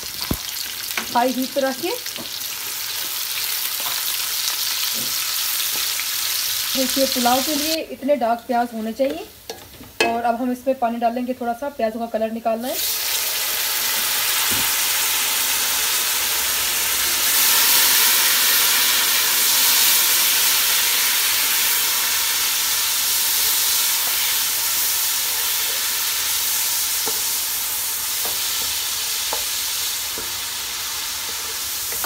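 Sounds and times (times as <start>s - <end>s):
onions sizzling in hot oil: 0.0s - 11.5s, 12.5s - 32.0s.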